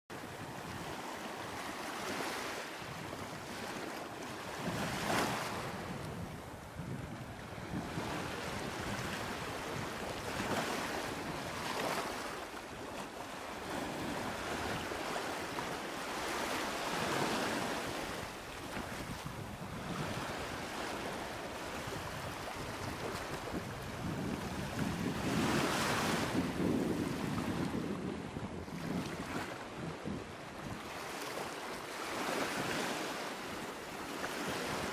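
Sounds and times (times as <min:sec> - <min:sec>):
small waves washing on shore: 0:00.1 - 0:34.9
wind on microphone: 0:00.1 - 0:34.9.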